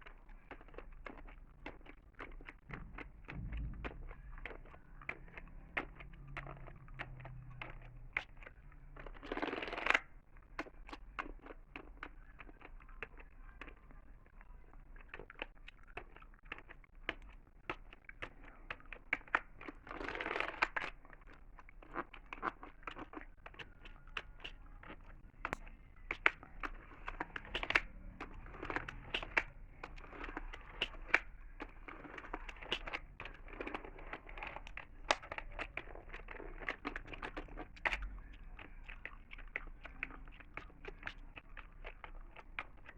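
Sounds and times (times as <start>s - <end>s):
gum chewing clicks: 0.0s - 42.9s.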